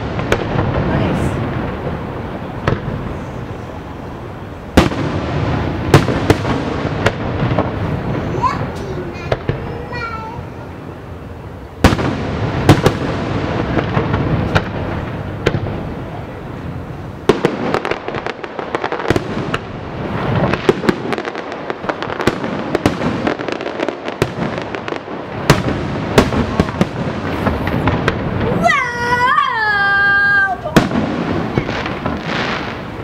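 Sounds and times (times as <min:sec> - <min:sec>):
continuous fireworks rumble: 0:00.0 - 0:33.0
fireworks bangs and crackles: 0:00.0 - 0:33.0.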